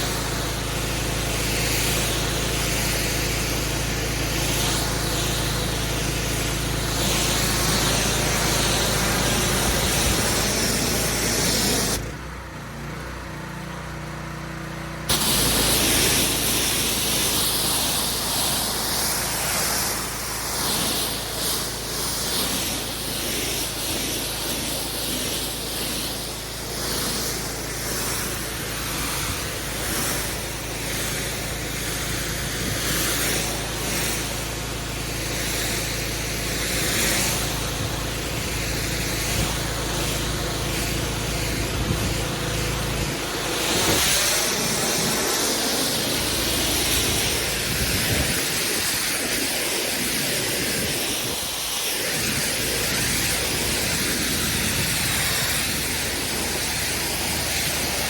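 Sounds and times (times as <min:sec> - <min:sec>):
pressure washer hum: 0:00.0 - 0:58.0
water jet spraying on paving: 0:00.0 - 0:58.0.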